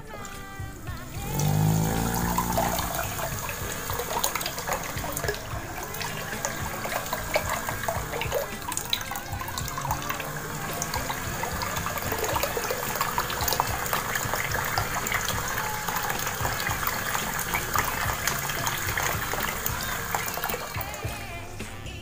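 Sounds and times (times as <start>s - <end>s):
water running and splashing: 0.0s - 21.3s
low hum: 0.0s - 21.6s.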